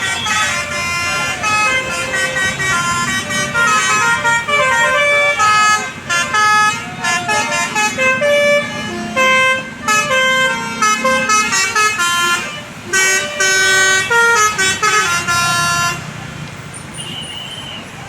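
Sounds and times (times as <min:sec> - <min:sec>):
bus horn playing a melody: 0:00.0 - 0:16.1
traffic noise: 0:00.0 - 0:18.0.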